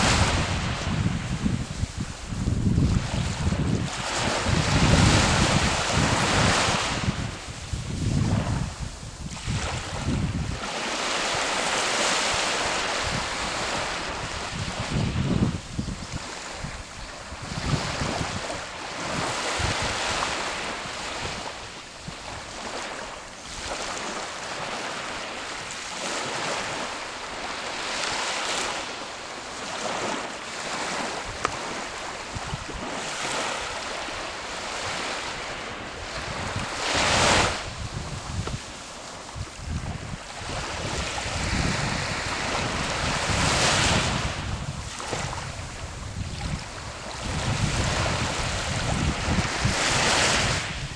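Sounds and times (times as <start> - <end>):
waves washing onto shore: 0.0 - 50.9
wind buffeting microphone: 0.0 - 50.9.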